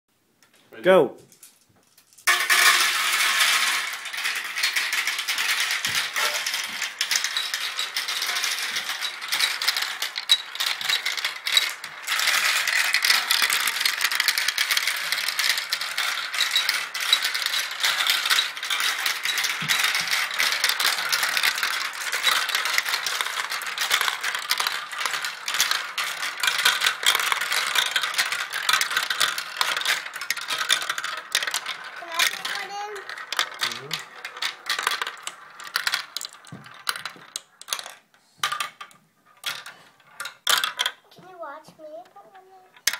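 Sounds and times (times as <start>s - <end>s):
marbles rattling down a run: 1.4s - 42.9s.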